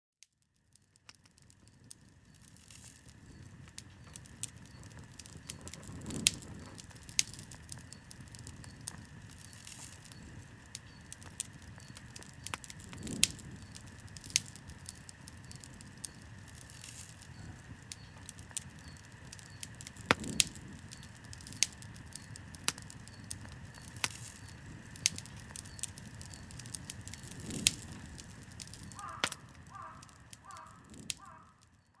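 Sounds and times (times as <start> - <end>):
campfire crackling and popping: 0.2 - 32.0
flame rushing: 1.1 - 31.2.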